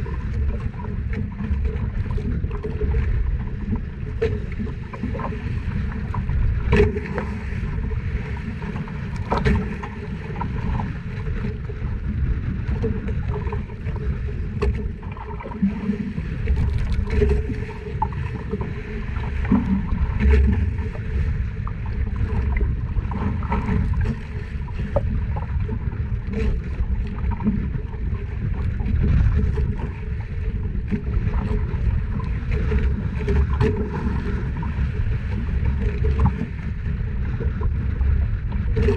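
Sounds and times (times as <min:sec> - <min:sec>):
wind and water around hull: 0:00.0 - 0:38.9.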